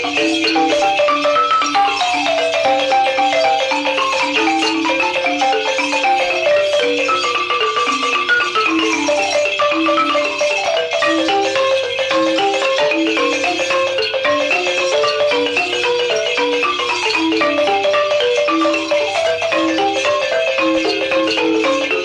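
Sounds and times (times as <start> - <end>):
xylophones playing interlocking patterns: 0.0 - 22.0.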